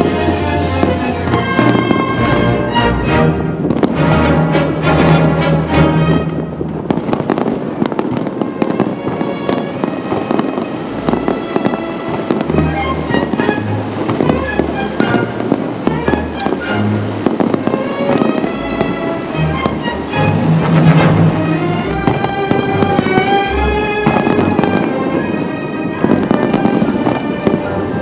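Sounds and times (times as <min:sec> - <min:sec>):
fireworks cracks and bangs: 0:00.0 - 0:28.0
music: 0:00.0 - 0:28.0.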